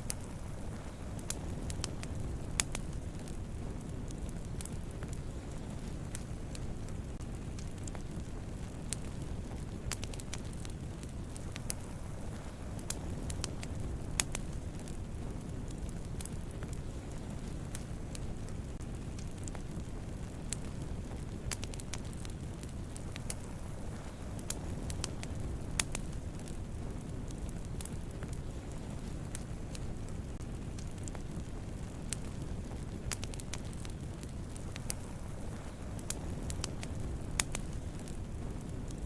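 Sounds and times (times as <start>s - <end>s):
burning wood crackling and popping: 0.0s - 39.0s
flames rumbling: 0.0s - 39.0s.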